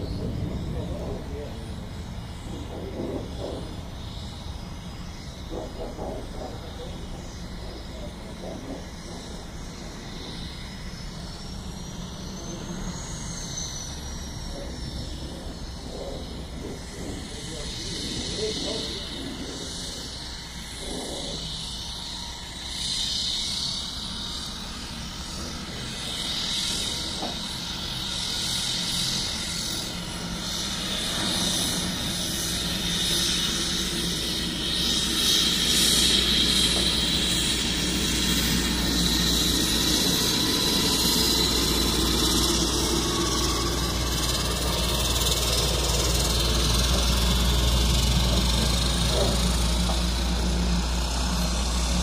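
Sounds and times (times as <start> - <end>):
turboprop engine whine: 0.0 - 52.0.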